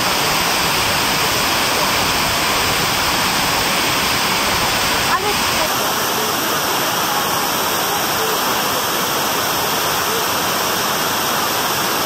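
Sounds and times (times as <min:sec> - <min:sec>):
fountain water falling: 0:00.0 - 0:12.0.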